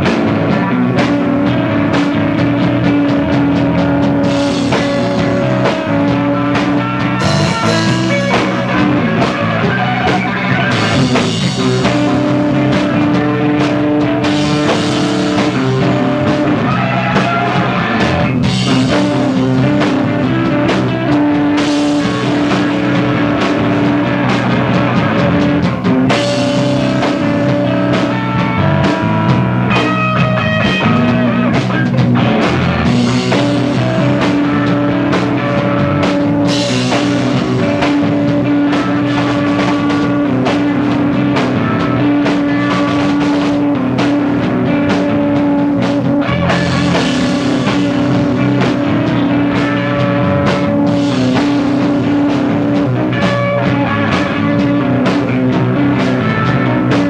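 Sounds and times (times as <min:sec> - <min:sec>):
loud punk rock band: 0:00.0 - 0:57.0.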